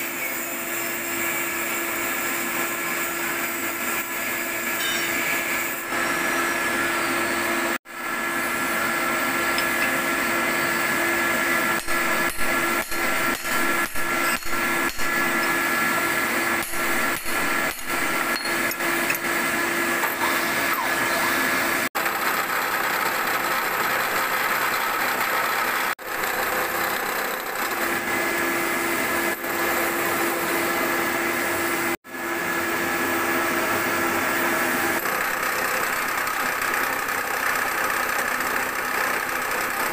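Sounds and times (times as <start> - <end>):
milling machine motor hum: 5.7 - 39.9.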